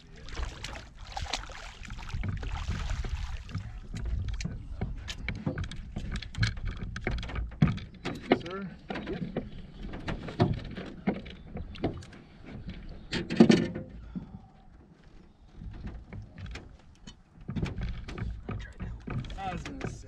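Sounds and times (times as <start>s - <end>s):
knocks and clatter in a boat: 0.0s - 20.0s.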